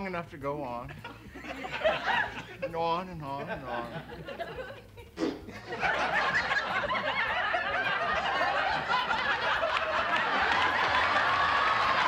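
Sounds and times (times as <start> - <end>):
crowd laughing: 0.9 - 12.0.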